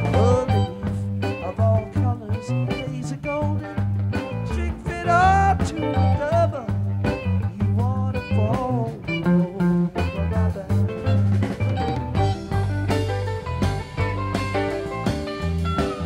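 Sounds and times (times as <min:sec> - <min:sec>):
bass guitar: 0:00.0 - 0:16.0
drums: 0:00.0 - 0:16.0
electric guitar lines: 0:00.0 - 0:16.0.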